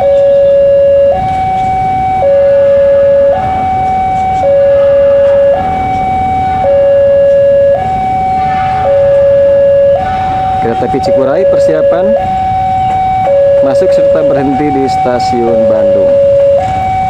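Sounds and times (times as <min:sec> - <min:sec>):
level crossing alarm two tones: 0:00.0 - 0:17.0.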